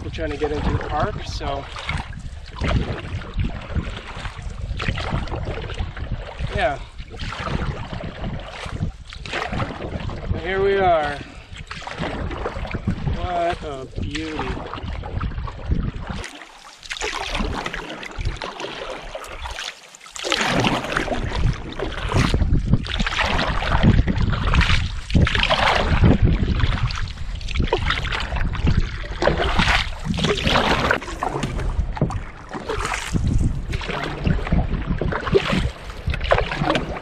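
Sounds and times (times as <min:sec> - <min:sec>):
wind buffeting microphone: 0:00.0 - 0:19.6, 0:20.2 - 0:37.0
paddle splashing in water: 0:00.0 - 0:37.0.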